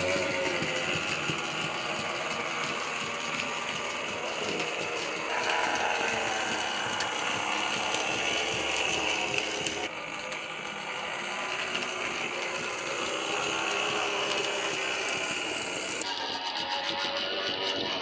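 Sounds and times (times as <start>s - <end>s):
model train motor whirr: 0.0s - 18.0s
wheels clicking over track: 0.0s - 18.0s.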